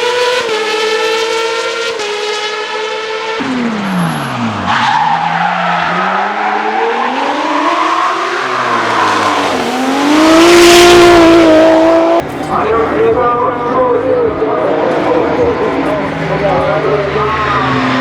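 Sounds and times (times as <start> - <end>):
race car engines at high revs: 0.0 - 12.4, 14.2 - 18.0.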